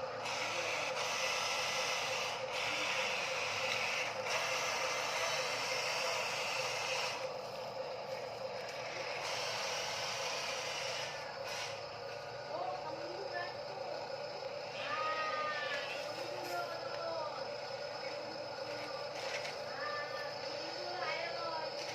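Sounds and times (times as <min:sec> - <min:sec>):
toy truck electric motor whirring: 0:00.0 - 0:21.9.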